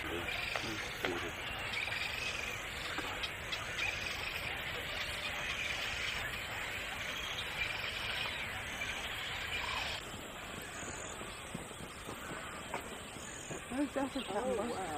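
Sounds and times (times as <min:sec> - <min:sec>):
outdoor background hiss: 0:00.0 - 0:14.9.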